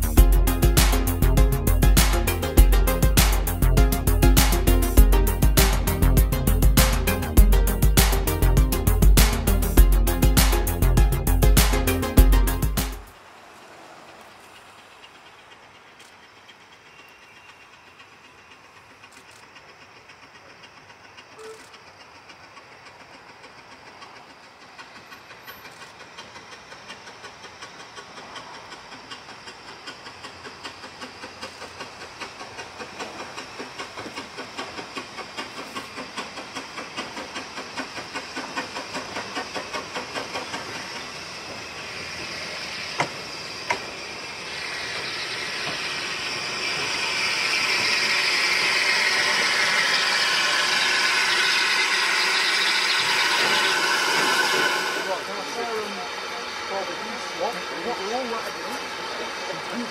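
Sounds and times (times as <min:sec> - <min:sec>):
steam hiss: 0:00.0 - 0:59.9
steam locomotive chuffing: 0:00.0 - 0:59.9.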